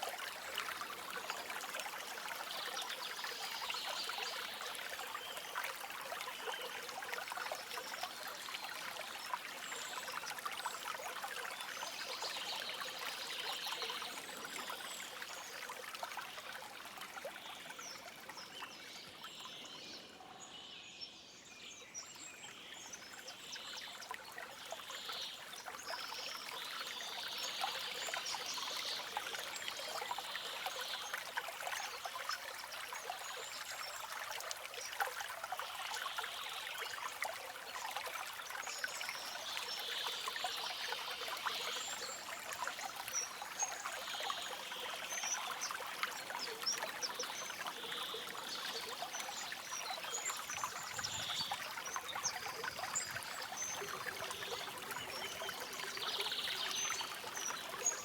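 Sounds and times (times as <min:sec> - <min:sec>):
stream babbling over stones: 0:00.0 - 0:19.6, 0:22.8 - 0:58.0.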